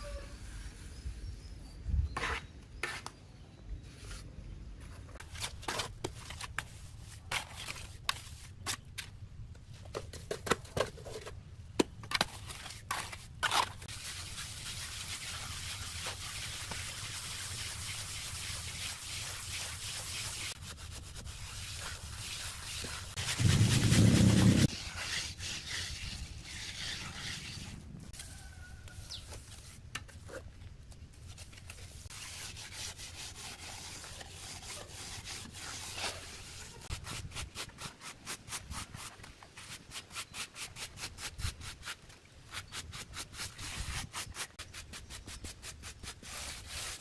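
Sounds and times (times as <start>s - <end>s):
float scraping wet cement: 5.2s - 9.2s, 10.2s - 30.5s, 31.1s - 47.0s.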